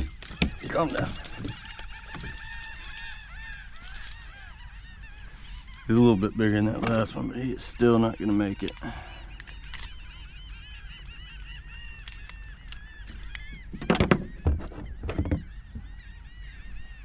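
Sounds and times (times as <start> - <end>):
birds chattering: 0.0 - 17.0.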